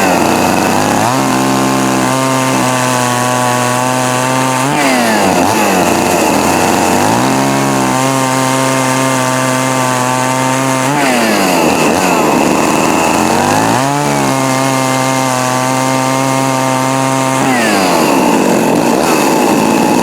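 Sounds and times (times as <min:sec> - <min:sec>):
chainsaw running at high revs: 0:00.0 - 0:20.0.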